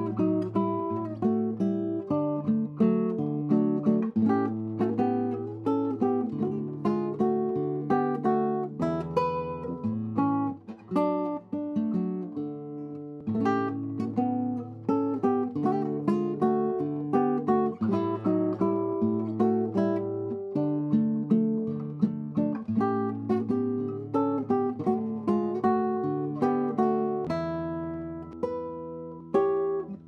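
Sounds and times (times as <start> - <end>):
classical guitar fingerstyle: 0.0 - 30.0.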